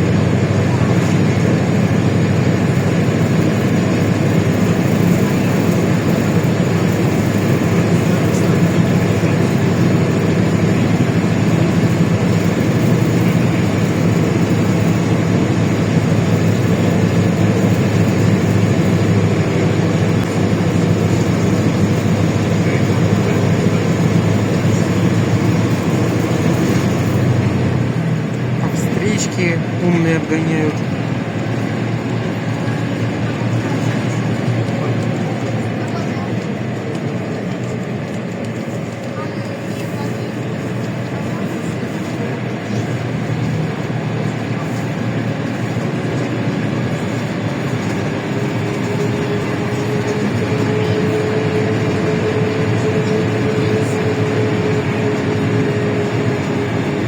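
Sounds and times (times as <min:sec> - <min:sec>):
bus engine running: 0:00.0 - 0:57.0
road and body noise: 0:00.0 - 0:57.0.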